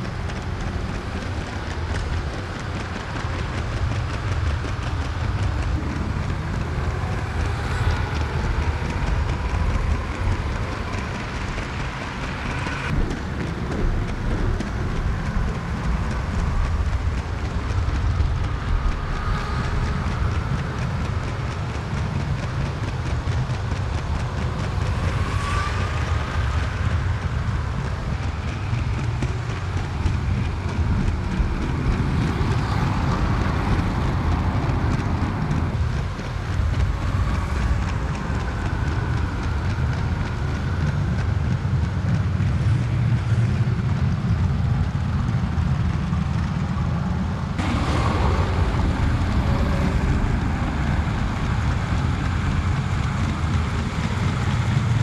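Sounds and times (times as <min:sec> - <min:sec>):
toy train rumbling on plastic track: 0:00.0 - 0:55.0.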